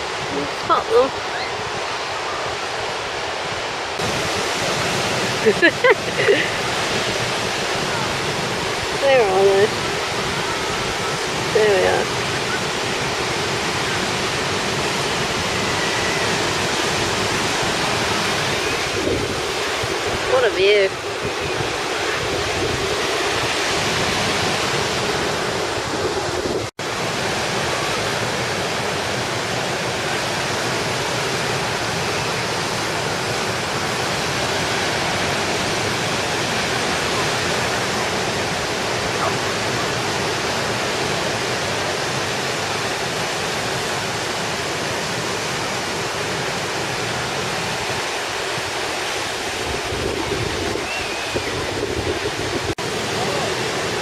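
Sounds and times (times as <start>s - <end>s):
sea surf: 0.0s - 54.0s
wind: 0.0s - 54.0s.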